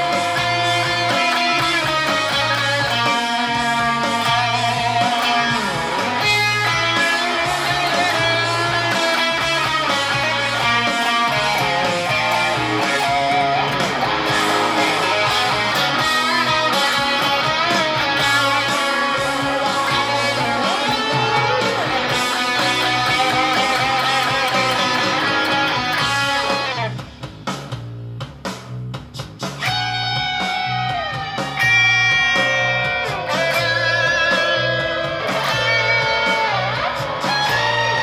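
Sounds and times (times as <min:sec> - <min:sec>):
electric guitar rock riffs: 0:00.0 - 0:38.0
rock band backing track: 0:00.0 - 0:38.0
steady bass line: 0:00.0 - 0:38.0.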